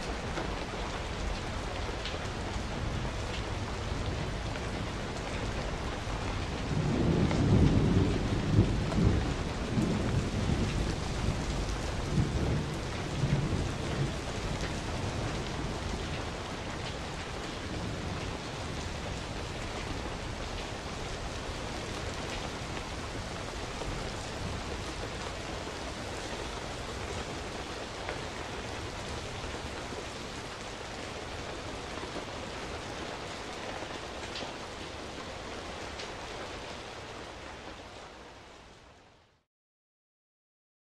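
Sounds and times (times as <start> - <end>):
thunder rumbling: 0.0 - 37.4
steady rain: 0.0 - 39.5.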